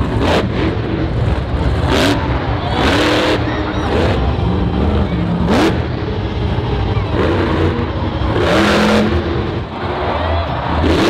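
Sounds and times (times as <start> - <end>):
heavy engine rumble: 0.0 - 11.0
truck engine revving: 0.0 - 11.0.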